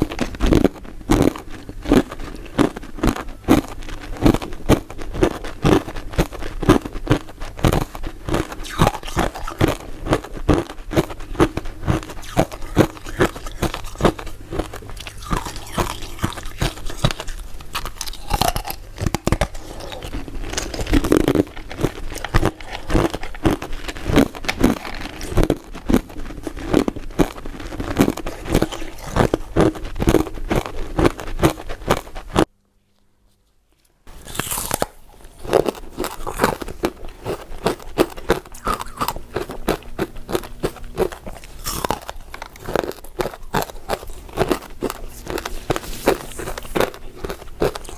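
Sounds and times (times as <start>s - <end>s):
crunching and chewing ice: 0.0s - 32.5s, 34.1s - 47.9s.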